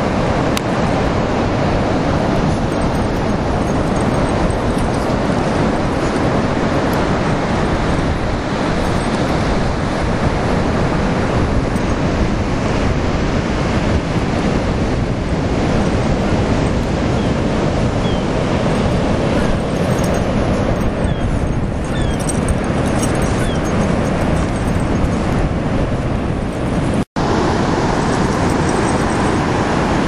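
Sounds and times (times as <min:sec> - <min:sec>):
ocean surf breaking: 0:00.0 - 0:30.0
wind rumbling on microphone: 0:00.0 - 0:30.0.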